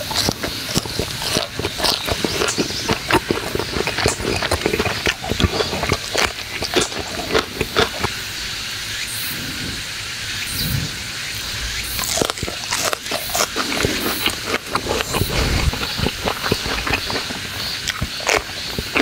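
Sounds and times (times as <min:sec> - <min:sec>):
crunchy chewing: 0:00.0 - 0:09.8, 0:10.4 - 0:19.0.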